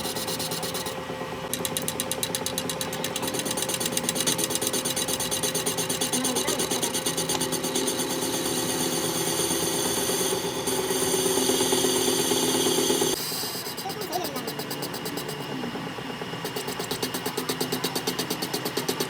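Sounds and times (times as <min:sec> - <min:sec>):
workshop machine rasping: 0:00.0 - 0:19.0.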